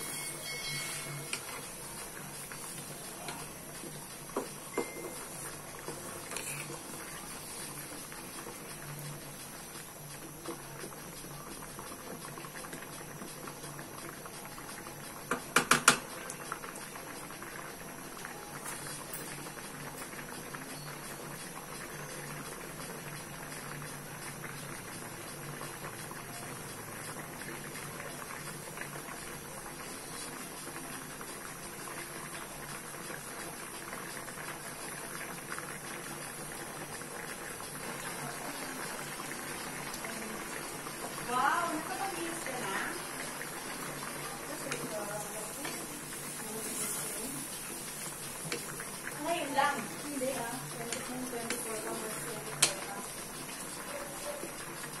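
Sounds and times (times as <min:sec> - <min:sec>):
liquid bubbling in a wok: 0:00.0 - 0:55.0.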